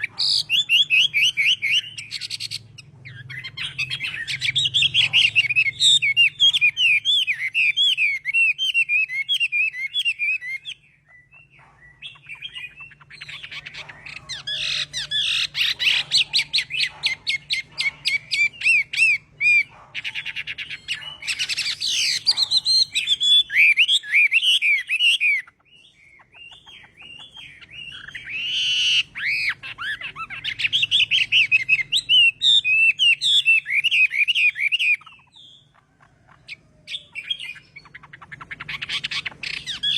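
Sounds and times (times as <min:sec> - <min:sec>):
bird singing warbles and trills: 0:00.0 - 0:39.9.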